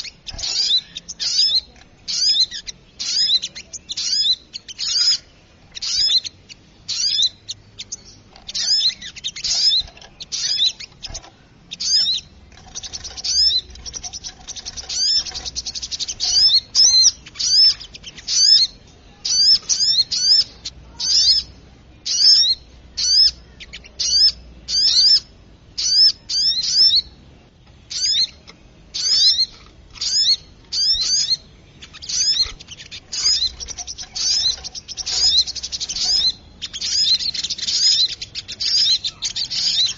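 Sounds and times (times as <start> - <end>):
bird sharp high chirps: 0.0 - 27.2, 27.8 - 39.9.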